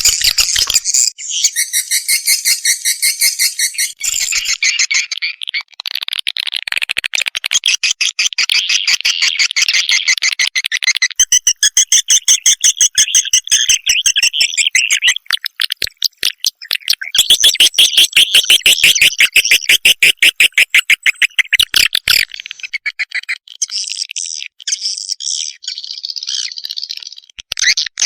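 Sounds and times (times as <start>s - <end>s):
high-pitched bird chirping: 0.0s - 5.7s, 7.8s - 28.0s.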